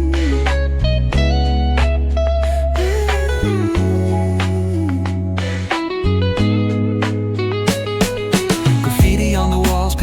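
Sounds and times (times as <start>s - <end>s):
bass line: 0.0s - 10.0s
guitar: 0.0s - 10.0s.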